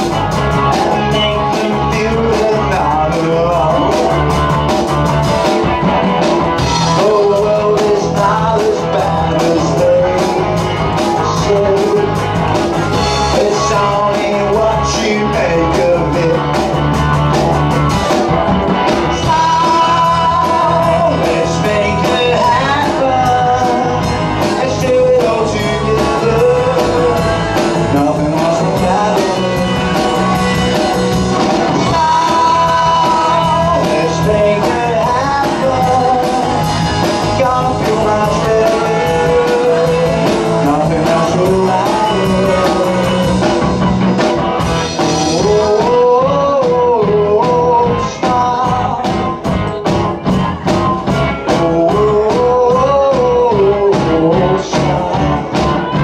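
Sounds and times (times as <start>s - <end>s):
drum kit: 0.0s - 56.0s
electric guitars: 0.0s - 56.0s
person singing: 0.0s - 56.0s.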